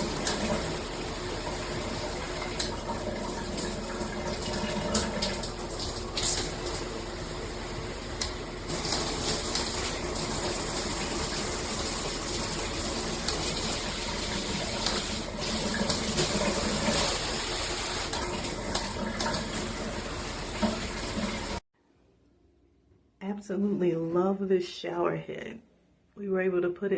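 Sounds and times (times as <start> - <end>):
water spraying from shower head: 0.0 - 21.6.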